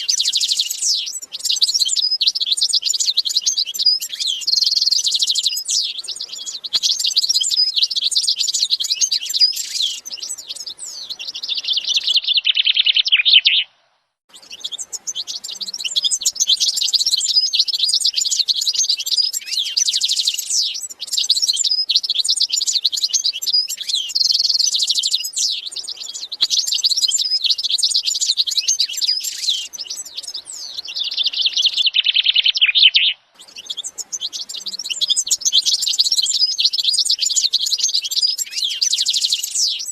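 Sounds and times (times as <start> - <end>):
cage birds chirping and warbling: 0.0 - 13.7, 14.3 - 39.9.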